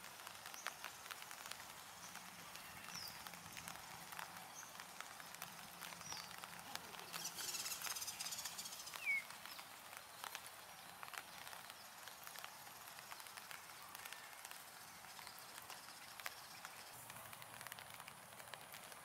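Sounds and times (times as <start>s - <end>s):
faint birdsong: 0.2s - 18.0s
rapid high bird chatter: 0.4s - 17.1s.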